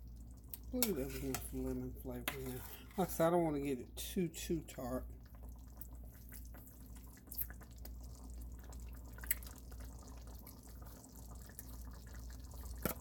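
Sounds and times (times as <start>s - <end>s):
sauce bubbles popping: 0.0s - 2.6s, 5.0s - 13.0s.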